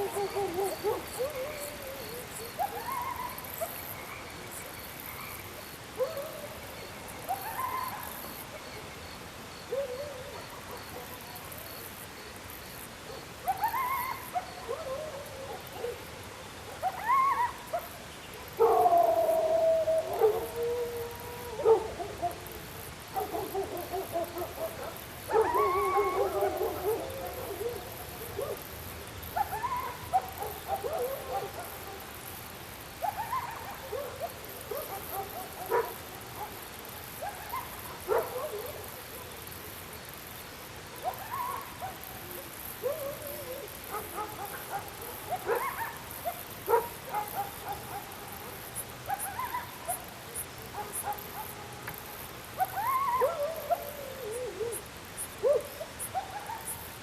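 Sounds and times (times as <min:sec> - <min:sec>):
dogs howling and yelping: 0:00.0 - 0:04.0, 0:05.9 - 0:08.4, 0:13.1 - 0:32.3, 0:32.9 - 0:39.4, 0:40.9 - 0:57.0.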